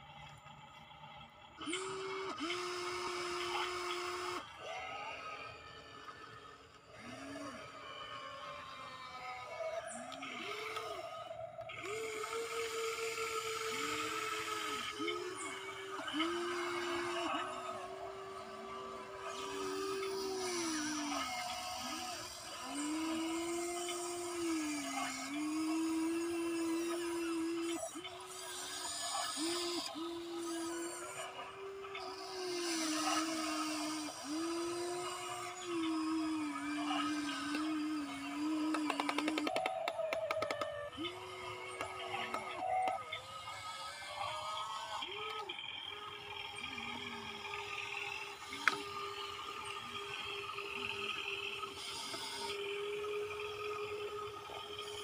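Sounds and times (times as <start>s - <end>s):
small electric motors whining: 0.0s - 55.0s.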